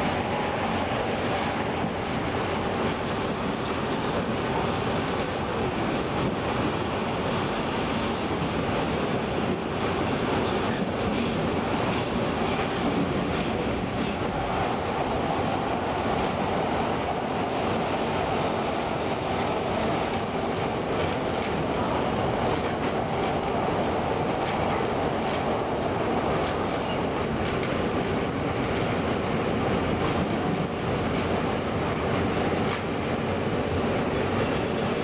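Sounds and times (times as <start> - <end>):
train rolling noise inside carriage: 0.0 - 35.0.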